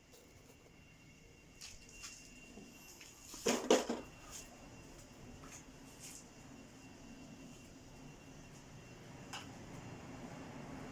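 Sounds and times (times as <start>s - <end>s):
faint steady hum: 0.0s - 10.9s.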